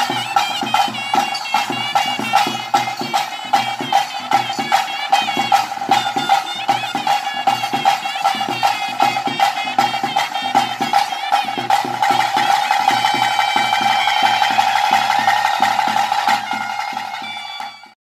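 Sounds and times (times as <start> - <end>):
drums beating: 0.0 - 18.0
high wavering melody: 0.0 - 18.0.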